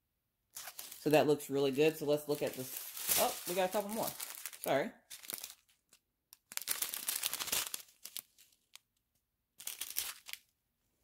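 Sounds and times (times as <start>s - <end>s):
plastic bags crinkling: 0.6s - 9.0s, 9.6s - 10.5s.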